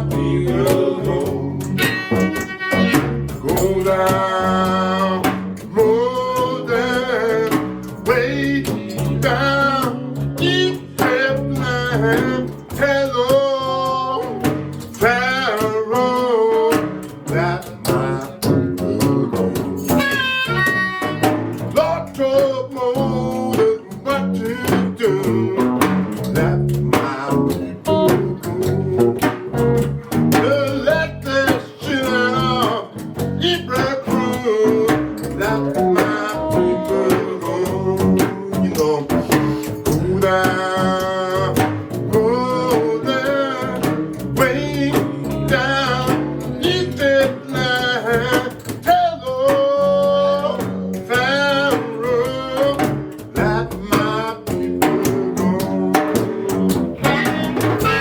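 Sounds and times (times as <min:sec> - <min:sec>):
guitar accompaniment: 0:00.0 - 0:58.0
harmonica playing blues: 0:00.0 - 0:58.0.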